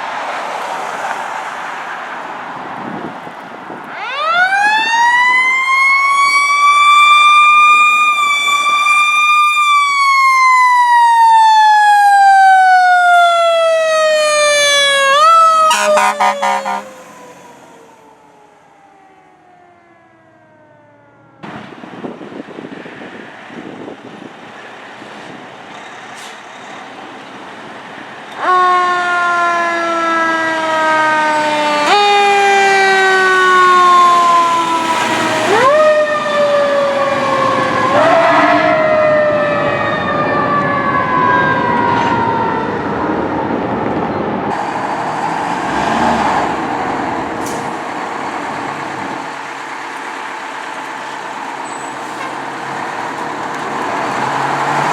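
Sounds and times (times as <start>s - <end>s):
fire truck siren: 0.0s - 21.8s, 28.3s - 54.9s
truck engine rumble and road noise: 0.0s - 54.9s.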